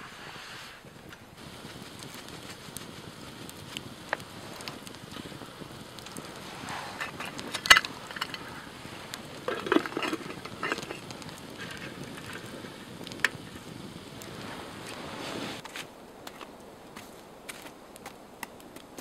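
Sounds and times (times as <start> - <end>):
steady low hiss: 0.0 - 19.0.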